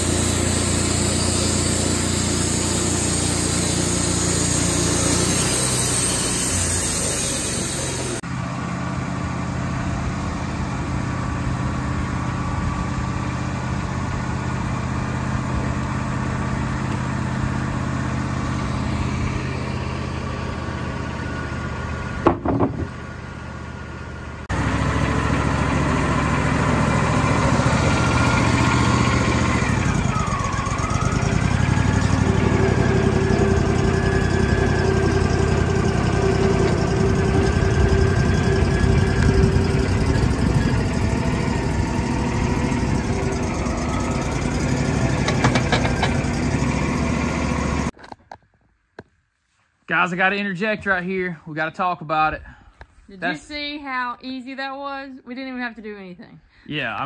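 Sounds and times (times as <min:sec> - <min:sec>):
hydraulic whine: 0:00.0 - 0:09.1, 0:09.7 - 0:47.9
sawmill engine running: 0:00.0 - 0:47.9.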